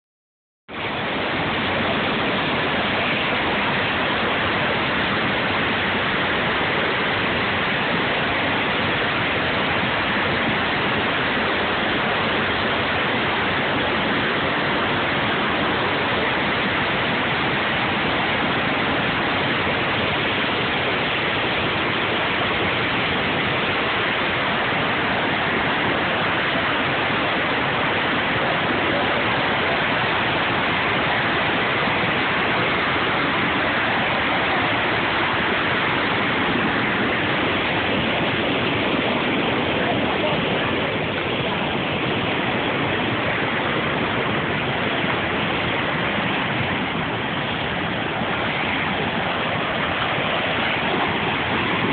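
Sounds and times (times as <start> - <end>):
waterfall and rapids rushing: 0.7 - 51.9.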